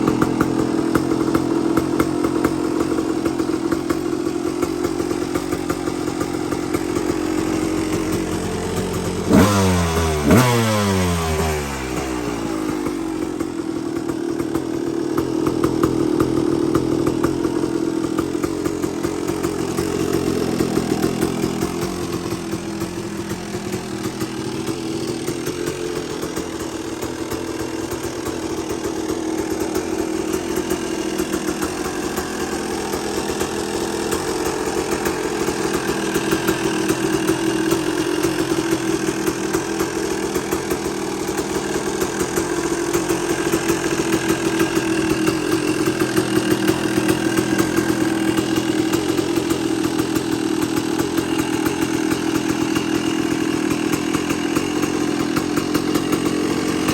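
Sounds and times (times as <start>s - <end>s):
two-stroke engine idling: 0.0s - 56.9s.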